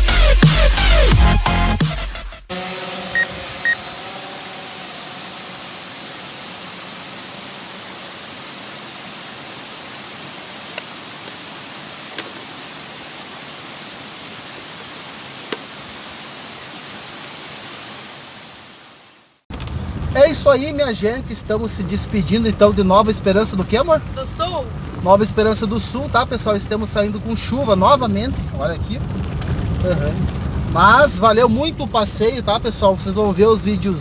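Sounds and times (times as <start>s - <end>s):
waterfall rushing: 2.5s - 34.0s.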